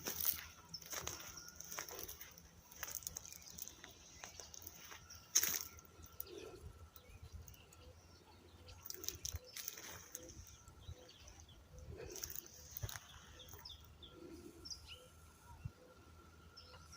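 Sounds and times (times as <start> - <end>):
birds chirping: 0.0 - 16.9
soft low bird calls: 0.0 - 16.9.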